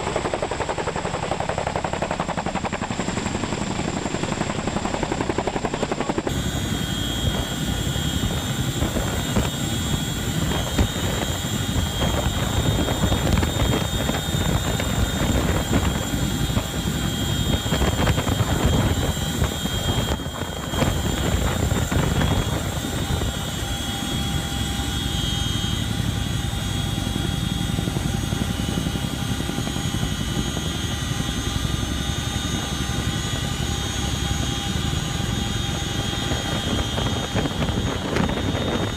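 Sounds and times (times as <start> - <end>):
helicopter rotor noise: 0.0 - 38.9
high turbine whine: 0.0 - 38.9.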